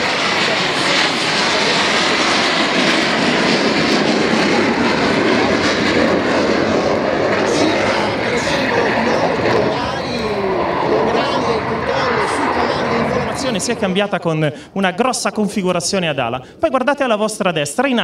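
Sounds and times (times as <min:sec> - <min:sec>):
jet flying past roaring: 0:00.0 - 0:15.3.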